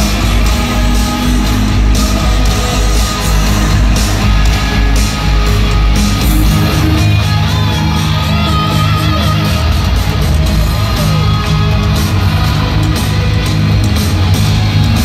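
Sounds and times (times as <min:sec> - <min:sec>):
hard rock music live: 0:00.0 - 0:15.0.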